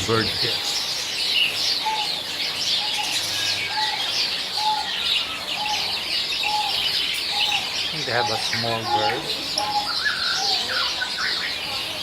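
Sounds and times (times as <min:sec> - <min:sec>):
caged birds twittering: 0:00.0 - 0:12.0.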